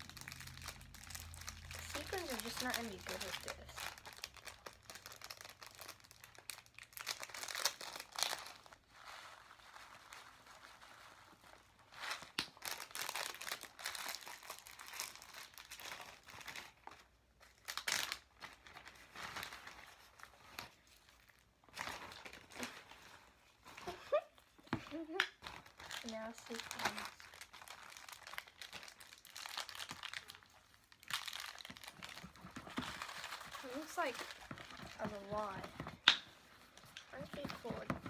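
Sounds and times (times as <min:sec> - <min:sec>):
plastic crinkling and rustling: 0:00.0 - 0:38.0.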